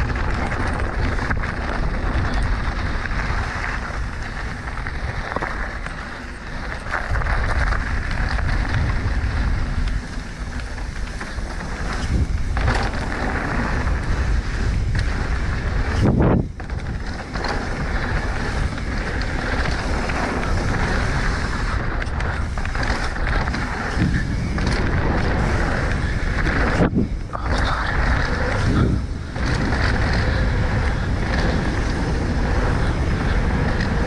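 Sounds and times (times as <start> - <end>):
tyres rolling on dirt trail: 0.0 - 34.0
wind rushing over microphone: 0.0 - 34.0.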